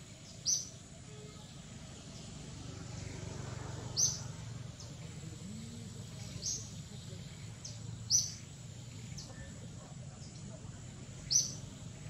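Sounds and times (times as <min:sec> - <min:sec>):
bird chirping: 0:00.0 - 0:02.4, 0:03.8 - 0:12.0.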